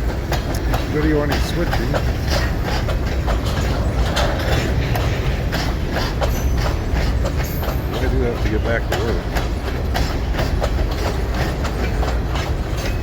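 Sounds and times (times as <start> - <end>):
freight train rumbling past: 0.0 - 13.0
wheels clacking over rail joints: 0.0 - 13.0.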